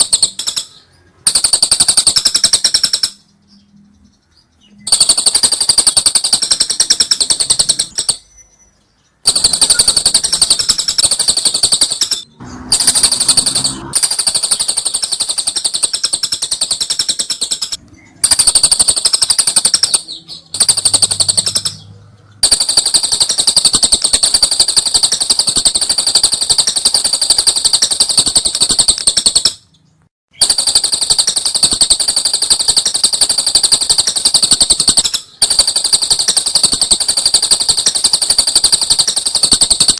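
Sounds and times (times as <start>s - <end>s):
lovebird rattling trill: 0.0s - 3.6s, 4.8s - 8.5s, 9.2s - 29.7s, 30.3s - 39.9s.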